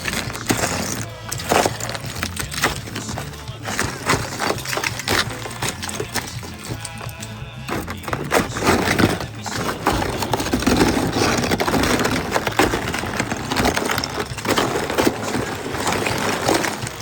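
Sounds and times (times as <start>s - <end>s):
ice being scraped and chipped: 0.0s - 17.0s.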